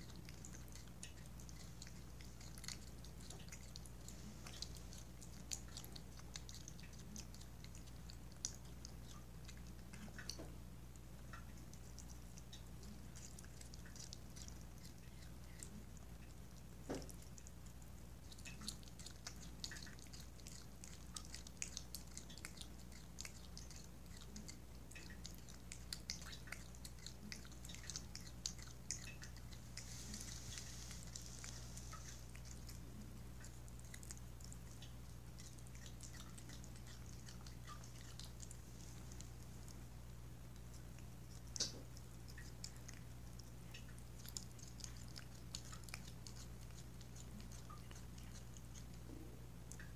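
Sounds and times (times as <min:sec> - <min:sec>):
cat chewing: 0:00.0 - 0:49.9.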